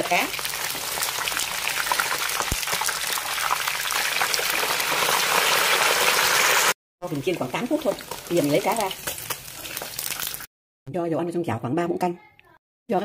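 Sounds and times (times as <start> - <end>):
fish sizzling in hot oil: 0.0 - 10.5.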